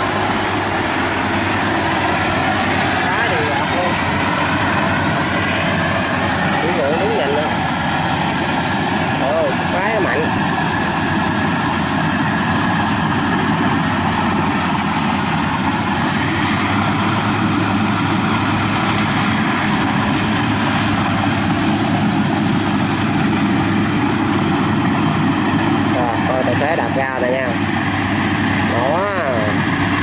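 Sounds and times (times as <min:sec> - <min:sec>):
combine harvester droning: 0:00.0 - 0:30.0.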